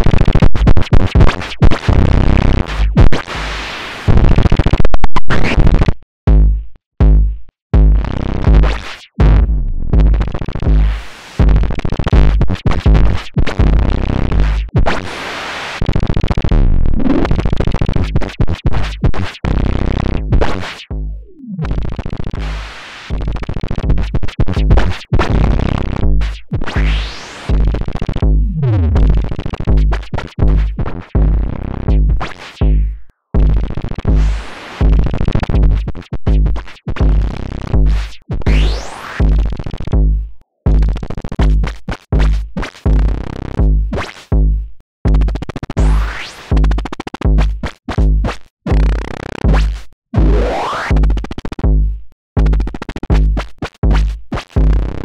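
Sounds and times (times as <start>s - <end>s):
synthesized kick drum: 0.4s - 3.6s, 6.3s - 14.9s, 20.2s - 55.0s.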